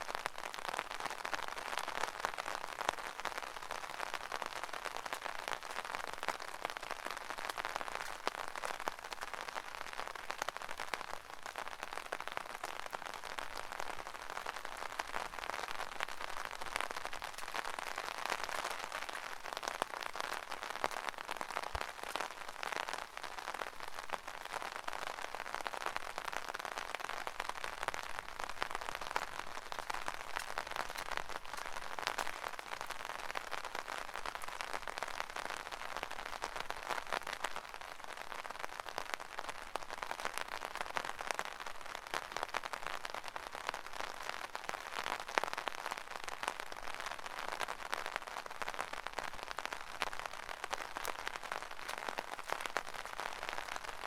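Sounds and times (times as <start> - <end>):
rain on an umbrella: 0.0 - 54.0.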